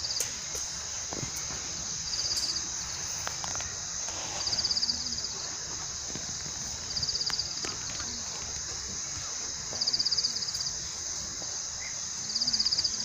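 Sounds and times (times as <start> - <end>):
insect pulsed trill: 0.0 - 13.0
insects chorus: 0.0 - 13.0.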